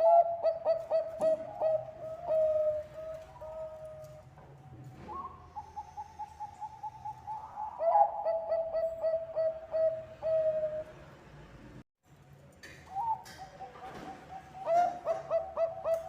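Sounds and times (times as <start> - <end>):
dove cooing: 0.0 - 4.3, 5.0 - 11.0, 13.0 - 16.0.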